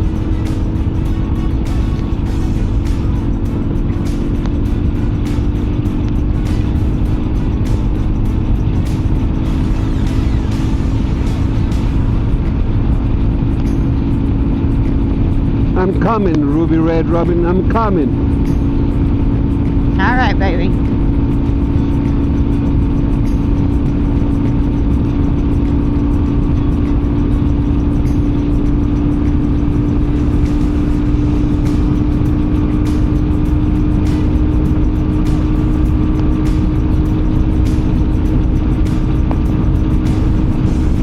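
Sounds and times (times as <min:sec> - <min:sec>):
heavy wind noise: 0:00.0 - 0:41.0
motorcycle engine cruising: 0:00.0 - 0:41.0.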